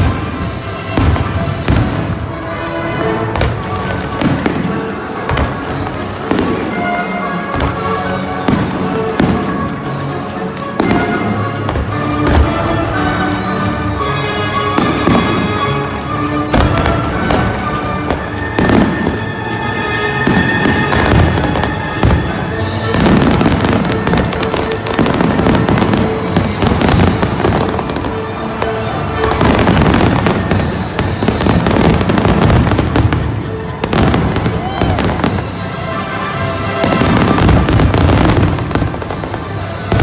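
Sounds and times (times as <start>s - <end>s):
fireworks bursting and crackling: 0.0s - 40.0s
music playing: 0.0s - 40.0s.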